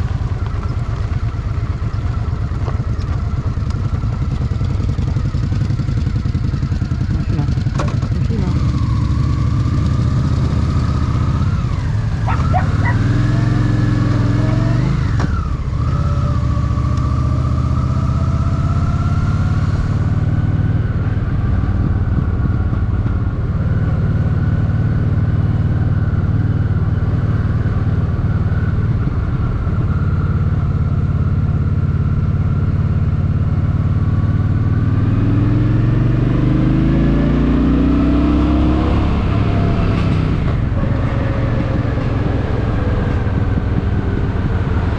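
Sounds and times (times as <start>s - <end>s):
motorcycle engine running: 0.0s - 44.9s
wind and road noise: 0.0s - 44.9s.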